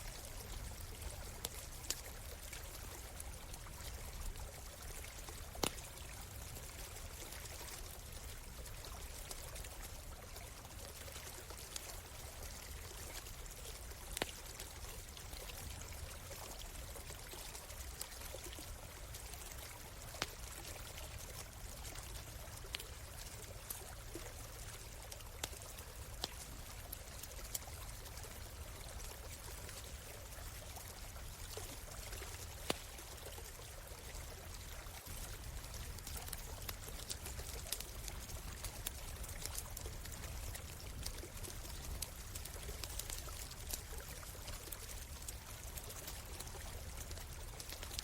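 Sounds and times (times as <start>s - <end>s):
campfire popping and crackling: 0.0s - 48.0s
stream water running: 0.0s - 48.0s.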